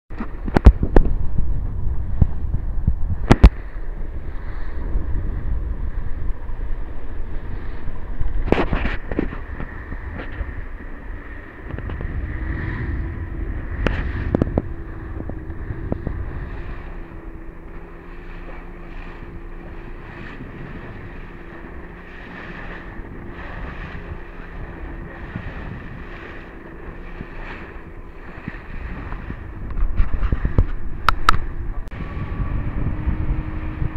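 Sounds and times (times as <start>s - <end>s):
boat engine drone: 0.1s - 33.9s
wind buffeting microphone: 0.1s - 33.9s.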